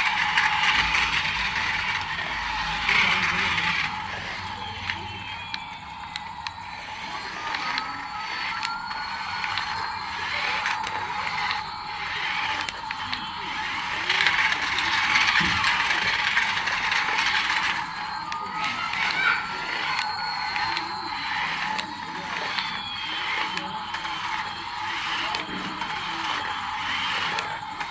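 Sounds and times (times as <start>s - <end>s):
remote-control toy motor whirring: 0.0s - 27.9s
scattered clicks: 0.0s - 27.9s.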